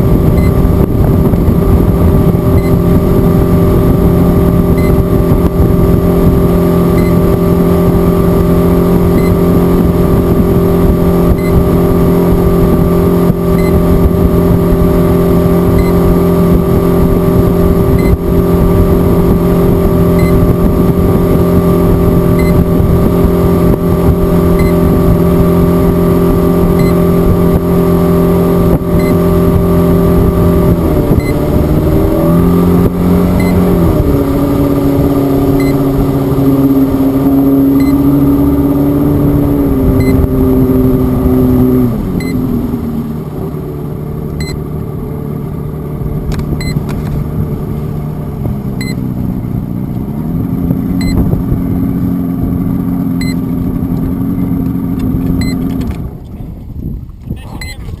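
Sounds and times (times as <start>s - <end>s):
boat motor droning: 0.0s - 58.0s.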